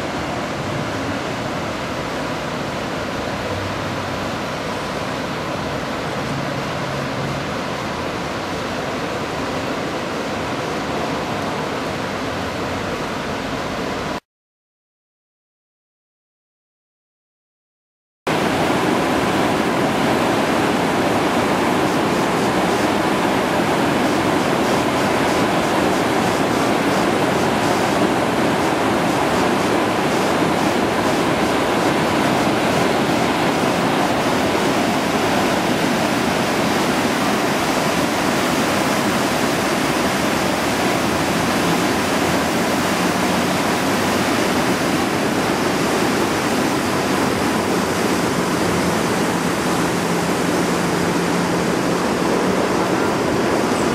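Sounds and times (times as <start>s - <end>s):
river rapids roaring: 0.0s - 14.2s, 18.3s - 53.9s.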